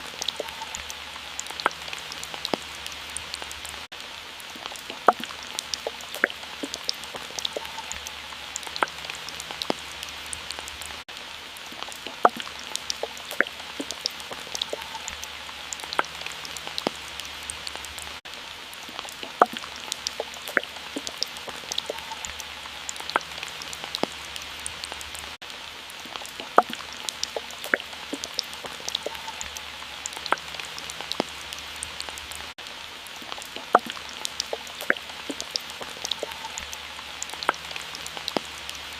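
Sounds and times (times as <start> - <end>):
soft hiss of water: 0.0 - 38.9
water dripping: 0.0 - 38.9.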